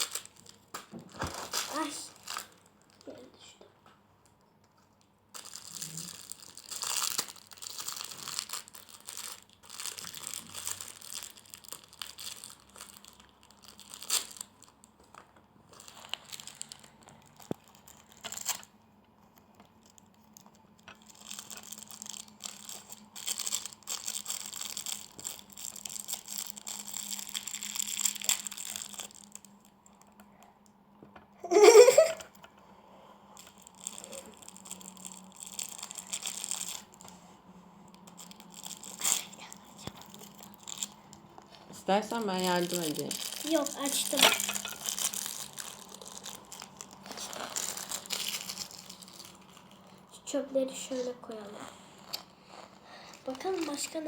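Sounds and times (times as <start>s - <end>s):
plastic wrapping crinkling and tearing: 0.0s - 3.5s, 4.8s - 30.3s, 33.4s - 37.2s, 37.8s - 54.0s.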